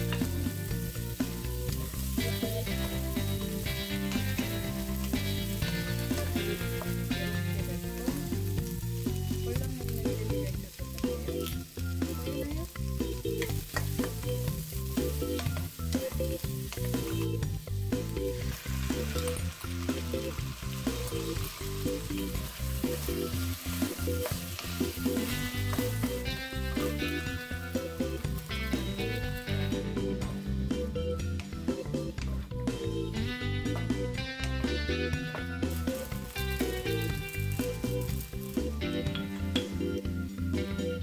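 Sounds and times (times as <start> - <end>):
food sizzling in hot oil: 0.0 - 30.4, 33.8 - 39.7.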